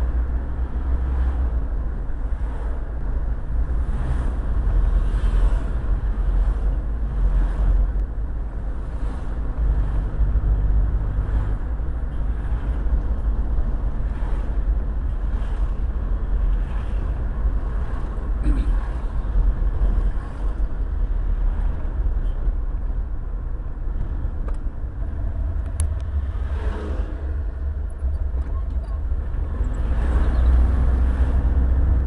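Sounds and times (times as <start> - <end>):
car road noise from inside: 0.0 - 32.0.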